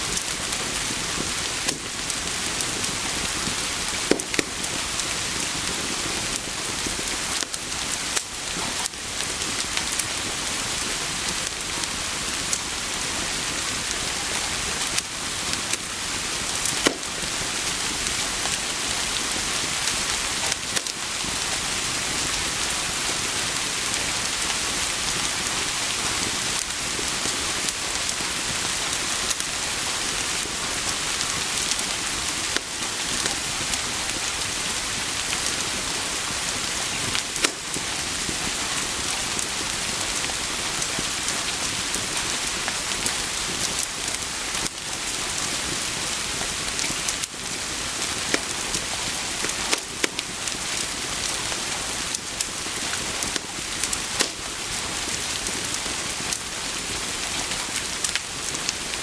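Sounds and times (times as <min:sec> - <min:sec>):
rain hiss: 0:00.0 - 0:59.0
wood fire crackling: 0:00.0 - 0:59.0.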